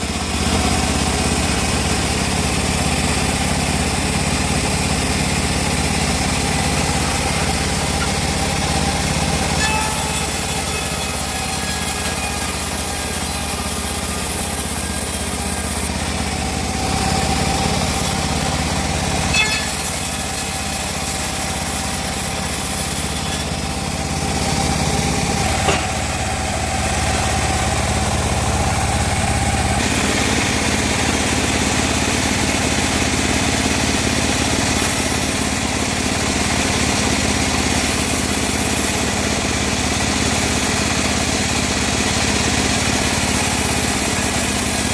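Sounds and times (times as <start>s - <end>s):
bandsaw running: 0.0s - 44.9s
small engine droning: 0.0s - 44.9s.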